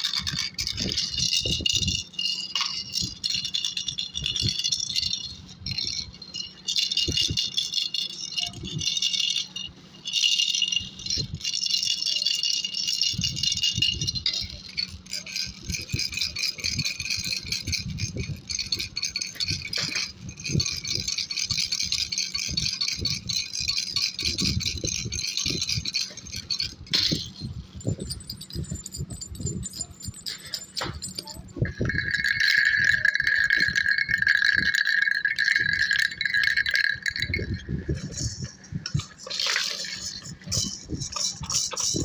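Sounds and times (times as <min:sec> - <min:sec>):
baby rattle shaking: 0:00.0 - 0:42.0.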